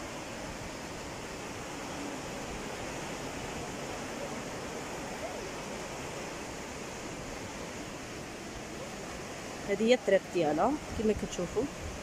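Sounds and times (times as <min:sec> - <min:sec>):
sea surf rushing: 0:00.0 - 0:12.0.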